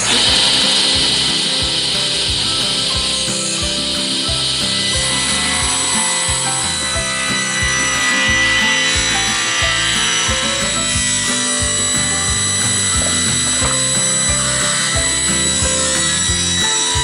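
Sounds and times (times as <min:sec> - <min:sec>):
background music: 0:00.0 - 0:17.0
table saw cutting wood: 0:00.0 - 0:17.0.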